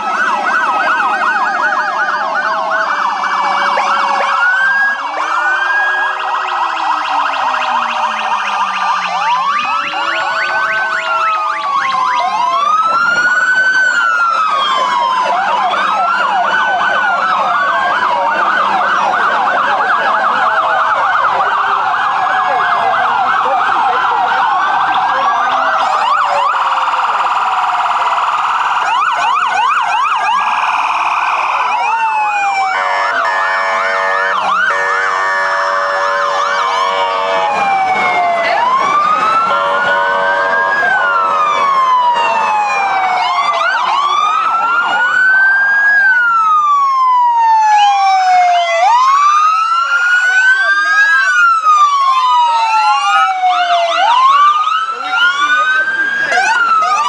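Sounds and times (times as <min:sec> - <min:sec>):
sirens wailing and yelping: 0:00.0 - 0:57.0.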